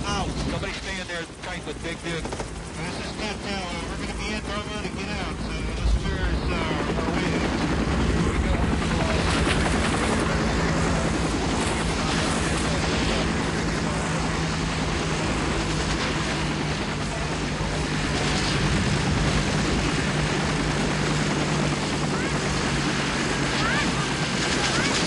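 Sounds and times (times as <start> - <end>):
helicopter rotor chopping: 0.0 - 25.0
low engine drone: 0.0 - 25.0.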